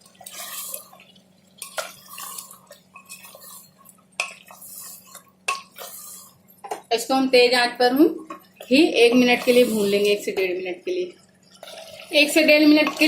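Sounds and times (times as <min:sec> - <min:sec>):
spoon stirring and scraping pot: 0:00.0 - 0:07.1, 0:08.1 - 0:10.6, 0:11.4 - 0:13.0.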